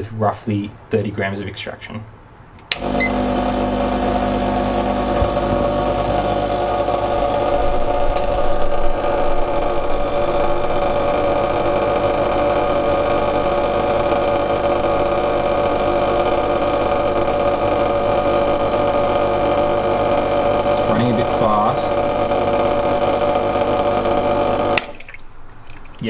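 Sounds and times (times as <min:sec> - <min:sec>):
espresso machine pump buzzing: 0:02.7 - 0:24.9.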